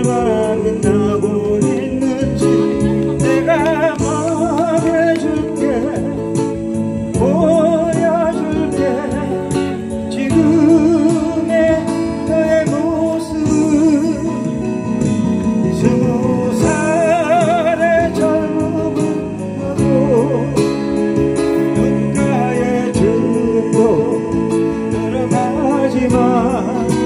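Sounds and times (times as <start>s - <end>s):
acoustic guitar: 0.0s - 27.0s
amplified music: 0.0s - 27.0s
man singing a ballad: 0.0s - 27.0s.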